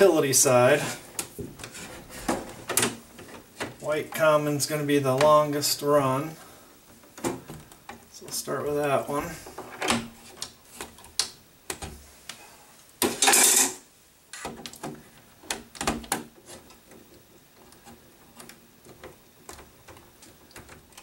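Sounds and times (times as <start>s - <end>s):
wires clicking and rustling: 0.0s - 12.4s, 13.0s - 21.0s.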